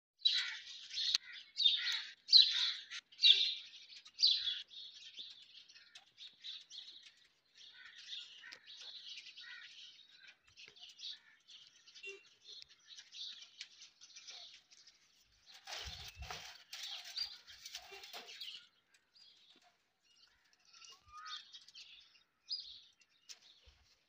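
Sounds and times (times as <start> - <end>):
parakeets chirping and chattering: 0.2 - 24.0.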